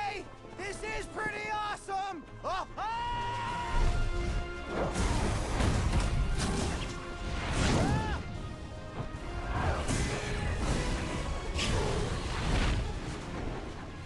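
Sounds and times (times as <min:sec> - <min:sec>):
film score music: 0:00.0 - 0:14.0.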